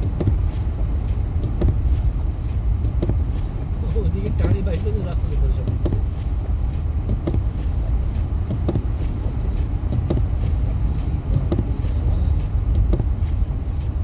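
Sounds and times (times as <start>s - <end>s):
faint light ticks: 0.0s - 14.0s
truck rumbling on snowy road: 0.0s - 14.0s.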